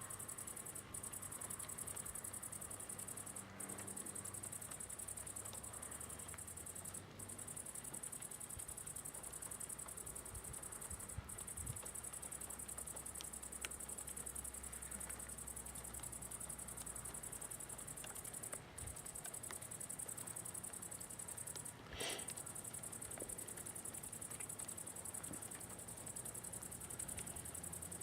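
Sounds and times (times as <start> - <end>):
night insects chirring: 0.0 - 28.0.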